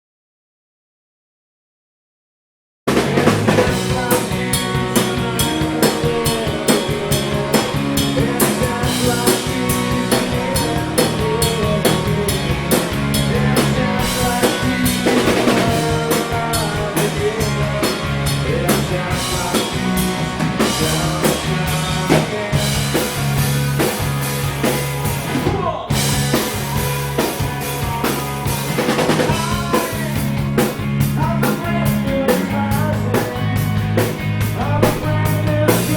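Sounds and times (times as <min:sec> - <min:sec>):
rock band playing live: 0:02.9 - 0:35.9.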